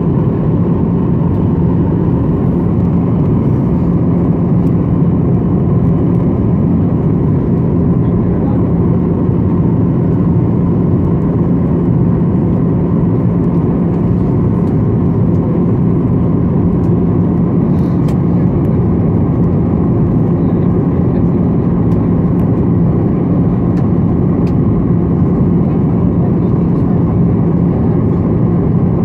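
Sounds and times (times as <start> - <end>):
airflow over fuselage: 0.0 - 29.0
jet engine cabin noise: 0.0 - 29.0
steady low hum: 0.0 - 29.0.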